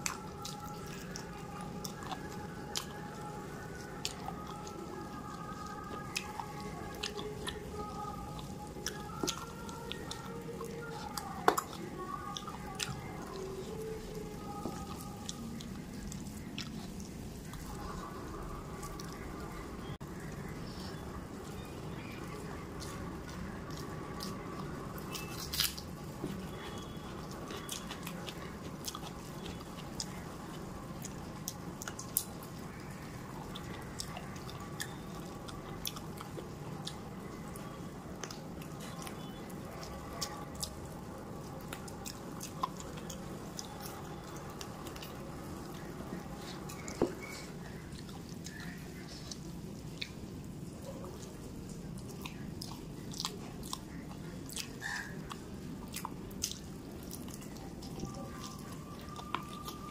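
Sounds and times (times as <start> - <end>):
low background hum: 0.0 - 59.9
person chewing food: 0.0 - 59.9.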